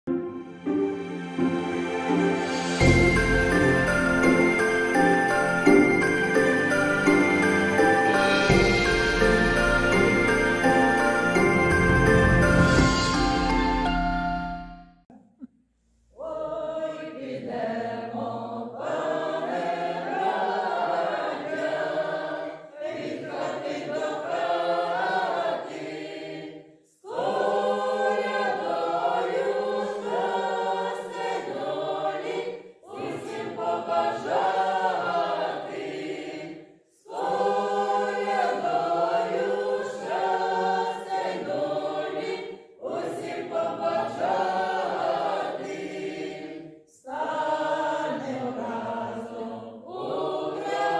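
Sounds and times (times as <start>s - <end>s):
choir singing a carol unaccompanied: 0.6s - 13.6s, 16.2s - 50.9s.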